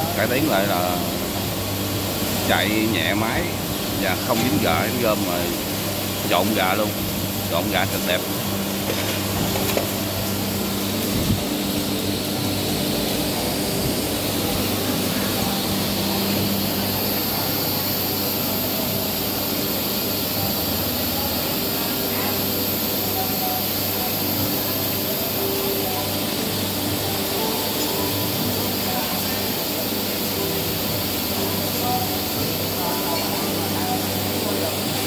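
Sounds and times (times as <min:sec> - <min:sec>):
machine droning: 0:00.0 - 0:35.0.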